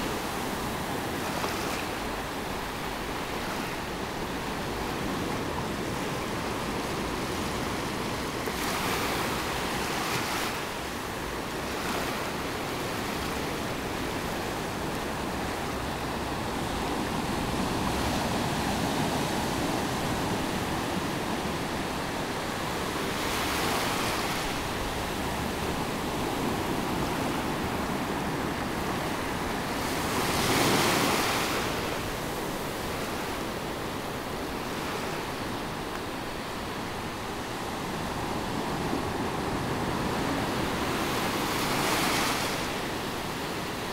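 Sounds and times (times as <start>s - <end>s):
surf waves washing on sand: 0.0s - 43.9s.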